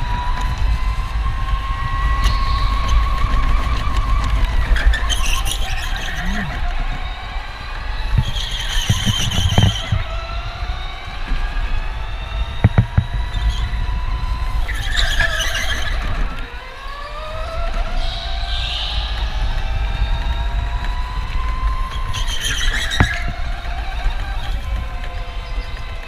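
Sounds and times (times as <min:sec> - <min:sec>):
electric motor whining: 0:00.0 - 0:26.0
tires squealing: 0:00.0 - 0:26.0.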